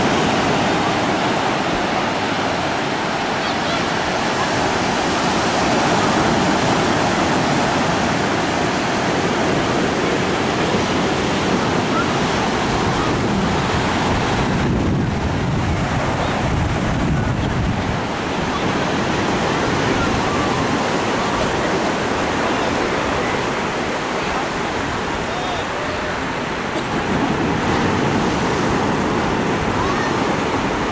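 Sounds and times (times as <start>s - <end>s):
ocean waves breaking: 0.0s - 30.9s.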